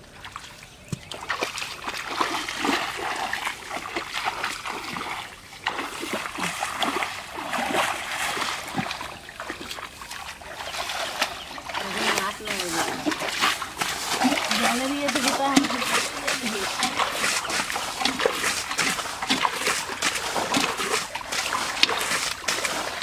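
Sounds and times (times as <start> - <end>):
metal bucket scooping water: 0.0 - 23.0
muddy water splashing: 0.0 - 23.0.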